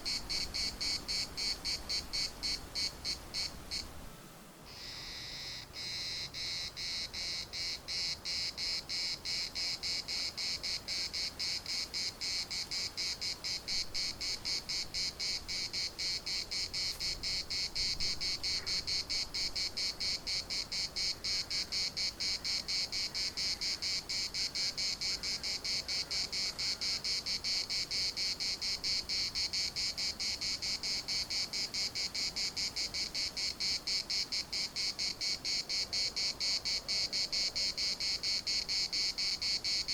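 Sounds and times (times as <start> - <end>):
cicada buzzing in pulses: 0.0 - 3.9, 4.7 - 39.9.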